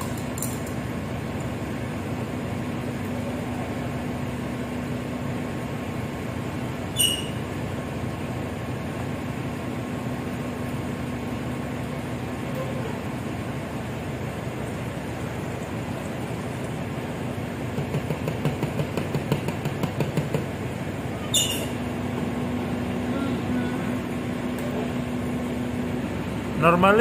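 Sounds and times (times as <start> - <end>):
shipboard machinery drone: 0.0 - 17.9, 19.8 - 27.0.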